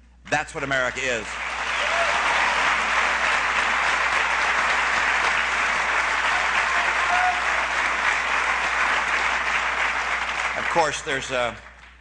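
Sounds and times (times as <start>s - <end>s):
large audience applauding: 0.8s - 12.0s.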